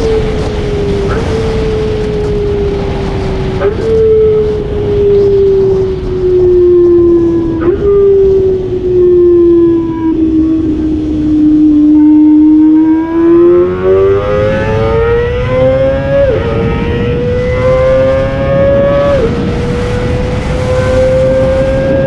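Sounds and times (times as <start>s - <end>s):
motorcycle engine at high revs: 0.0s - 9.0s, 9.9s - 22.0s
wind and road noise: 0.0s - 22.0s.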